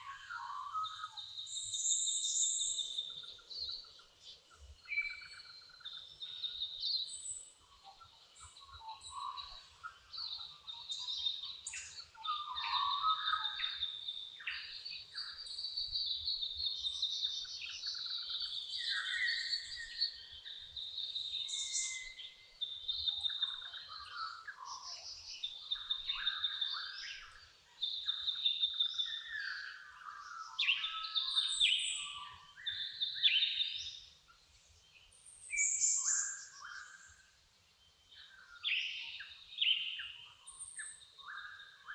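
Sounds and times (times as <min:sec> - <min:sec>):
birds singing and chirping: 0:00.0 - 0:34.2, 0:34.8 - 0:41.9.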